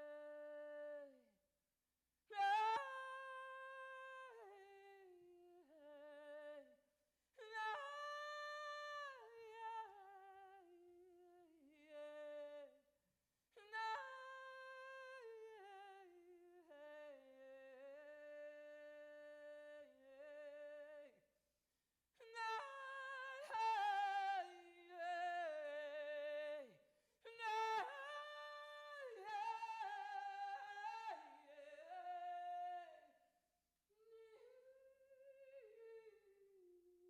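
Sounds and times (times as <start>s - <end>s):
woman singing wordless lament: 0.0s - 1.2s, 2.4s - 6.7s, 7.4s - 12.7s, 13.6s - 21.2s, 22.2s - 33.1s, 34.1s - 37.0s.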